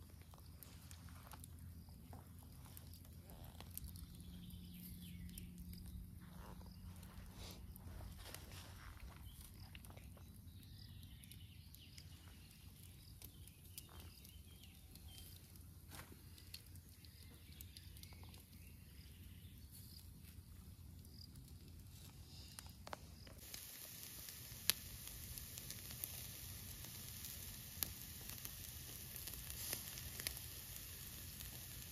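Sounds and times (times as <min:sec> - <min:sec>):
charcoal ticking and crackling: 0:00.0 - 0:31.9
meat sizzling over coals: 0:00.0 - 0:31.9.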